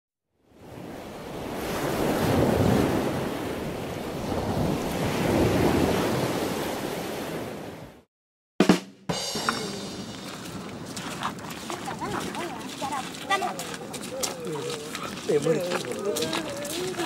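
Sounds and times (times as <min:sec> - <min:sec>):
ocean waves rushing: 0:00.6 - 0:08.0, 0:09.3 - 0:17.0.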